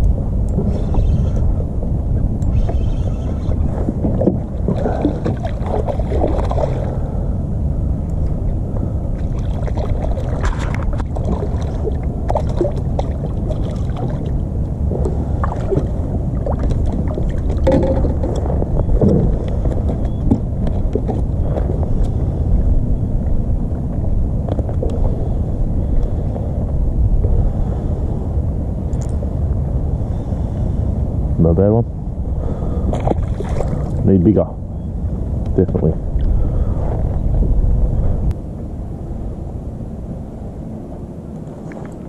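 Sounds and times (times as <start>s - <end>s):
water lapping against a hull: 0.0s - 31.0s, 32.3s - 35.2s
low rumble: 0.0s - 42.0s.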